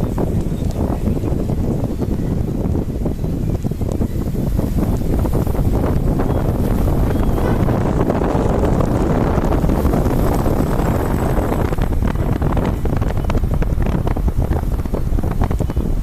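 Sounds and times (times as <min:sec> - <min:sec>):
low road rumble: 0:00.0 - 0:16.0
wind buffeting microphone: 0:00.0 - 0:16.0.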